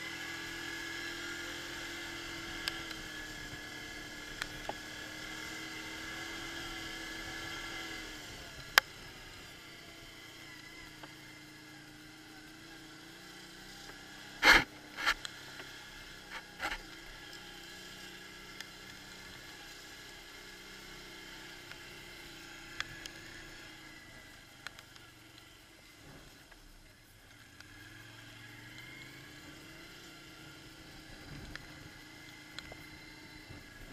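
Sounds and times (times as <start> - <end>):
quad bike engine running: 0.0 - 33.9.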